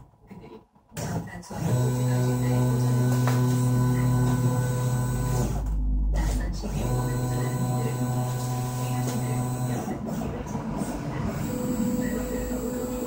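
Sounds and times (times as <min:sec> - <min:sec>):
stepper motors humming: 0:01.6 - 0:13.0.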